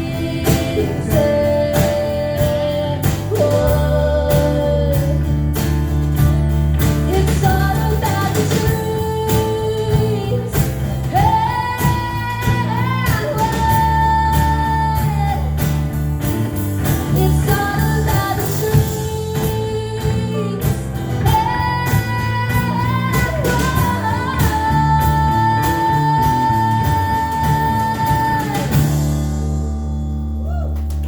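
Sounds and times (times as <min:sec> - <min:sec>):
strummed guitar: 0:00.0 - 0:30.5
steady bass line: 0:00.0 - 0:31.0.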